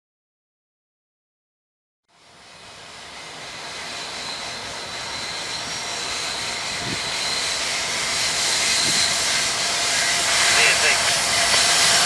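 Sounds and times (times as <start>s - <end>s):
train rushing: 2.2s - 12.0s.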